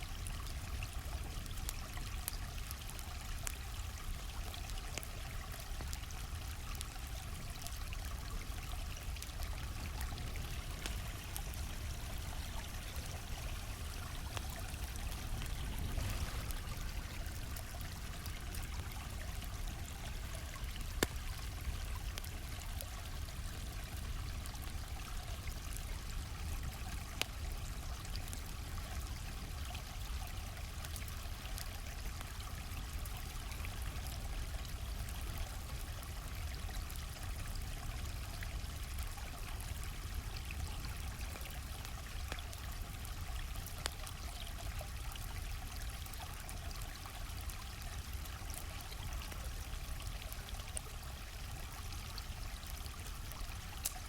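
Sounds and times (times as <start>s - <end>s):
campfire popping and crackling: 0.0s - 54.0s
stream of water flowing: 0.0s - 54.0s.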